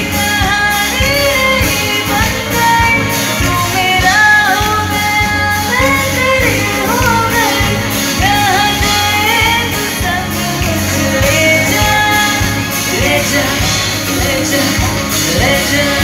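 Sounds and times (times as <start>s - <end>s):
drums: 0.0s - 16.0s
guitar: 0.0s - 16.0s
women singing pop song: 0.0s - 16.0s.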